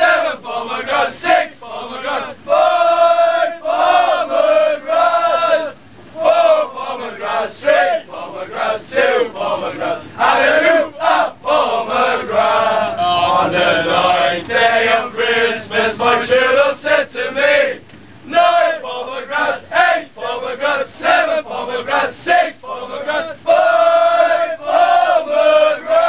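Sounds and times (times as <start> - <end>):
men singing a chant: 0.0 - 26.0.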